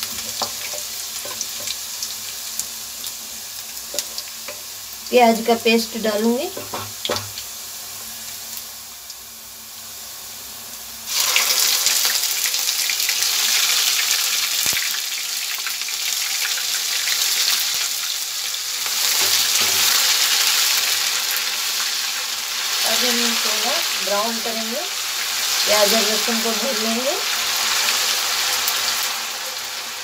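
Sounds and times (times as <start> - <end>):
hot oil sizzling: 0.0 - 30.0.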